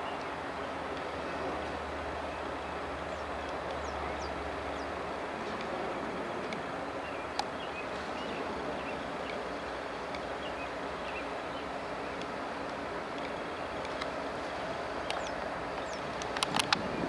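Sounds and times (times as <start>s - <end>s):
diesel locomotive engine drone: 0.0s - 17.0s
train rumbling on rails: 0.0s - 17.0s.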